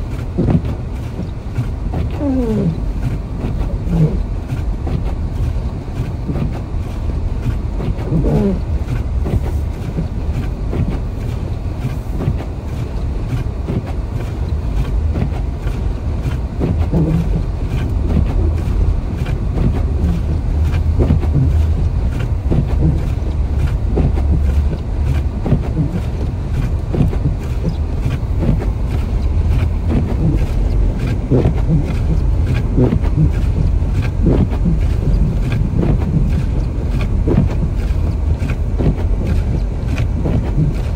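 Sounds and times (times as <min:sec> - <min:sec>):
car engine and tyres rumbling: 0:00.0 - 0:40.9
road and wind noise: 0:00.0 - 0:40.9.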